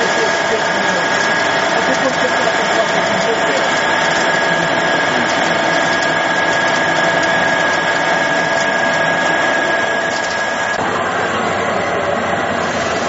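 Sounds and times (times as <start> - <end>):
high machine whine: 0.0 - 13.0
machine running: 0.0 - 13.0.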